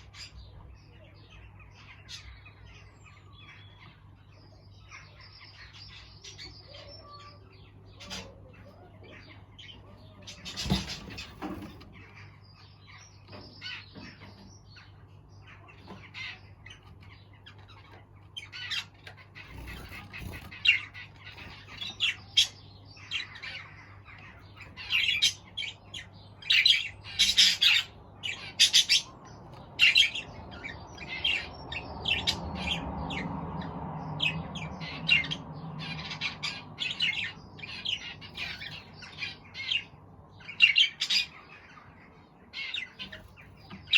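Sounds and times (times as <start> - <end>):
birds squawking and chirping: 0.0 - 43.9.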